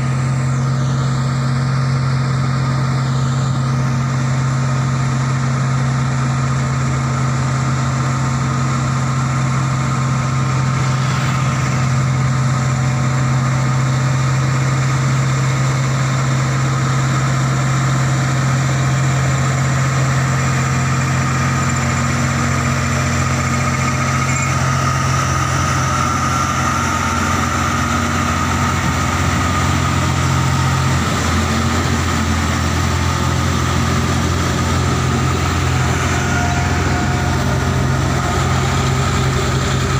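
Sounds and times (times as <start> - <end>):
truck diesel engines labouring: 0.0 - 39.9.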